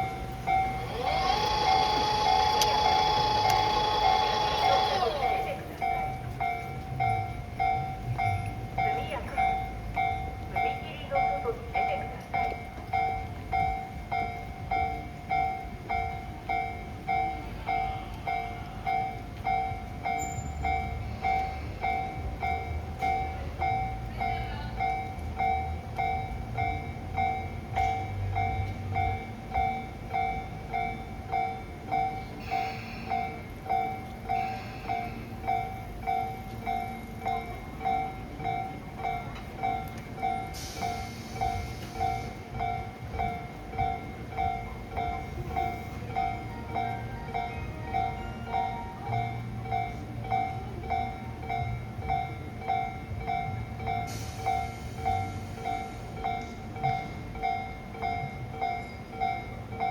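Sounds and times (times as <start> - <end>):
level-crossing warning bell: 0.0 - 59.9
train rumbling: 0.0 - 59.9.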